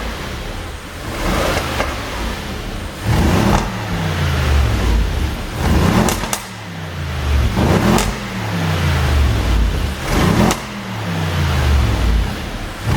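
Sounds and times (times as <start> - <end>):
car engine revving: 0.0 - 12.9
exhaust pops: 0.0 - 12.9.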